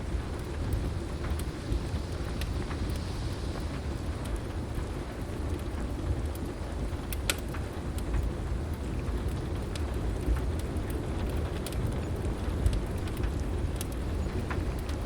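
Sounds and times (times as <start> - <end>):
heavy rain: 0.0 - 15.0
wood fire crackling: 0.0 - 15.0.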